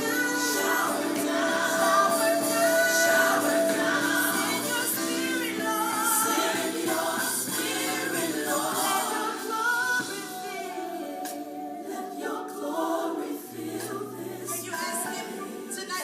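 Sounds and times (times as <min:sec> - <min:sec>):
choir singing gospel: 0:00.0 - 0:16.0.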